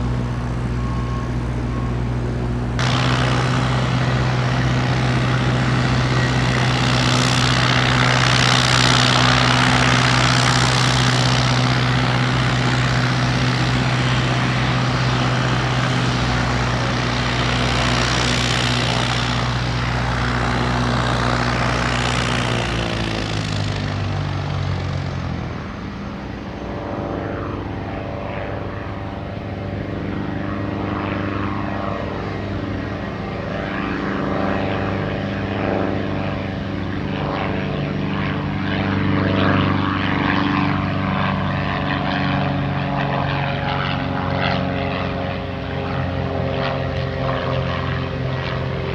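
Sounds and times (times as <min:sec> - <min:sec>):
airplane engines running: 0:00.0 - 0:48.9.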